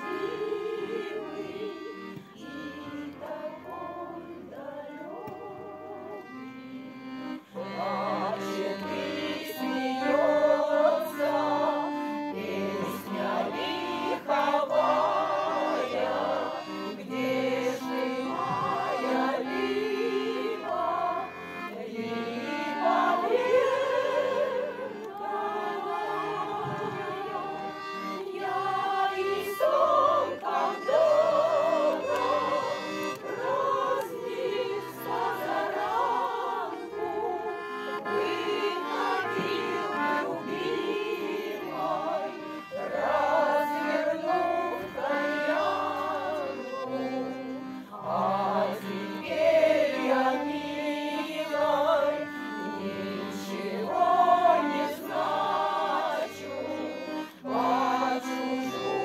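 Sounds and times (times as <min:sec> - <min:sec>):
vocal ensemble singing in chorus: 0:00.0 - 0:06.4, 0:07.2 - 0:59.0
instrumental accompaniment: 0:00.0 - 0:59.0.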